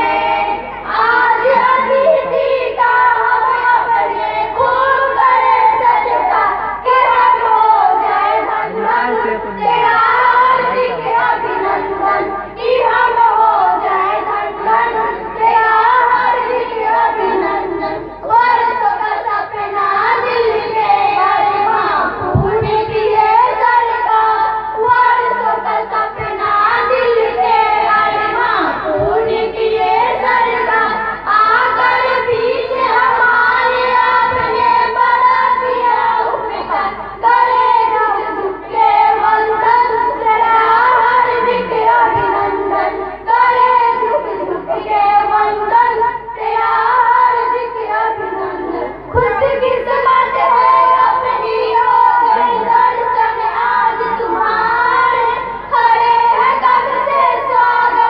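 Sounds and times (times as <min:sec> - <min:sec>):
girls singing together: 0:00.0 - 0:58.0.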